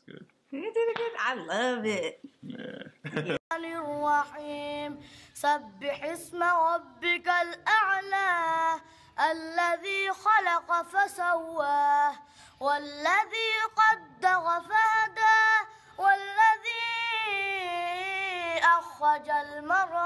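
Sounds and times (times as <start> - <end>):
boy chanting recitation: 3.5 - 20.0.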